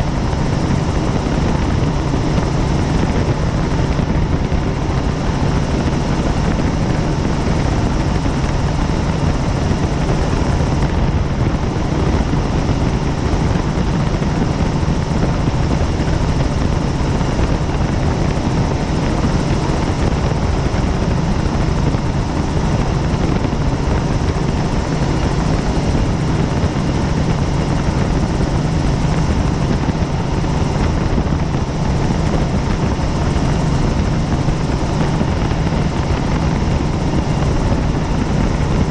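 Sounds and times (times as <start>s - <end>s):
helicopter rotor and engine noise: 0.0s - 38.9s.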